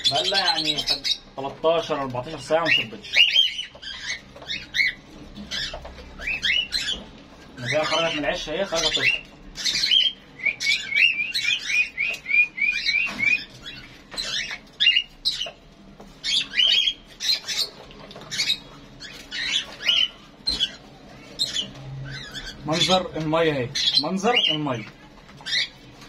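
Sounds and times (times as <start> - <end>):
small cage birds chirping: 0.0 - 26.0.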